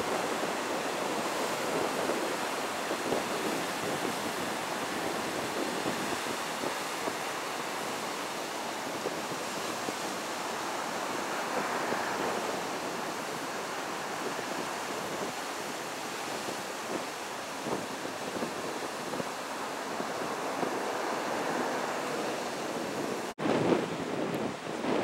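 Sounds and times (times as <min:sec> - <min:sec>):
surf breaking on rocky shore: 0:00.0 - 0:25.0
wind on microphone: 0:00.0 - 0:25.0.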